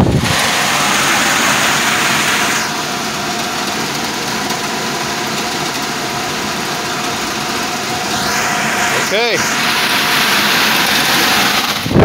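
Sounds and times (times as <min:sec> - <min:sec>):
blower fan rushing air: 0:00.0 - 0:12.0.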